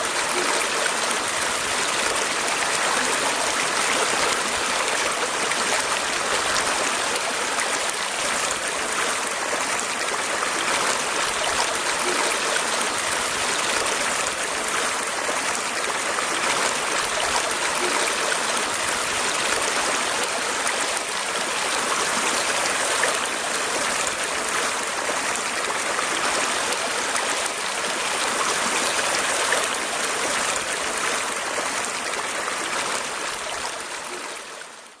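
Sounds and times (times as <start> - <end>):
running water flowing: 0.0 - 35.0.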